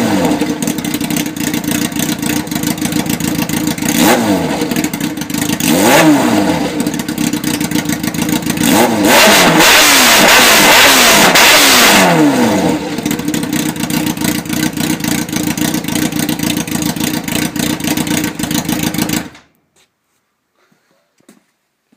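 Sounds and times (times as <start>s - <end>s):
motorcycle engine revving: 0.0s - 19.5s.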